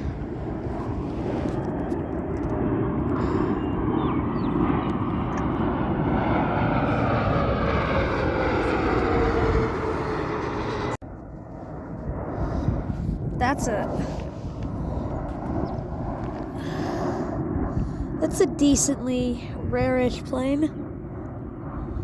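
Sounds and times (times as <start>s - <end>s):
jet airliner passing: 0.0s - 22.0s.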